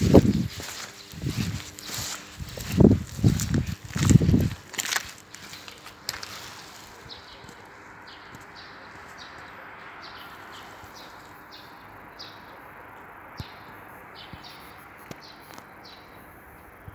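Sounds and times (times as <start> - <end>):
small bird chirping: 0.0 - 16.3
background town noise: 0.0 - 16.9.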